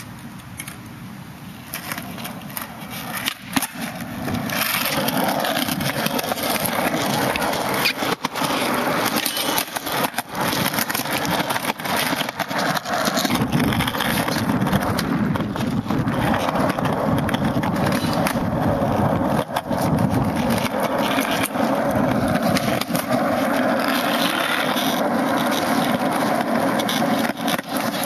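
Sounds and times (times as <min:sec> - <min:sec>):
skateboard wheels rolling on concrete: 0:00.0 - 0:28.0.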